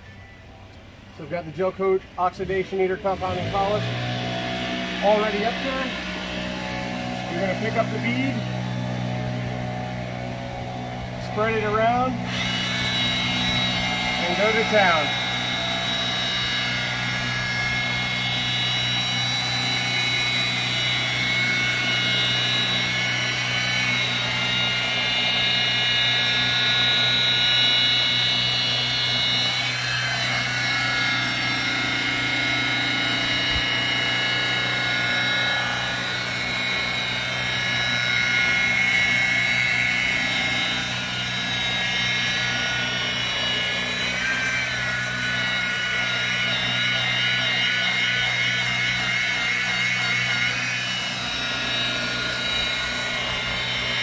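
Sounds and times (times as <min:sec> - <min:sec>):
rotary polisher motor whine: 0:00.0 - 0:54.0.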